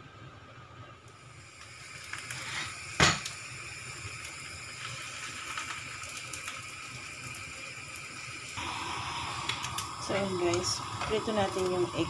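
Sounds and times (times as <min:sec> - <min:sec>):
egg sizzling in frying pan: 0:01.2 - 0:12.0.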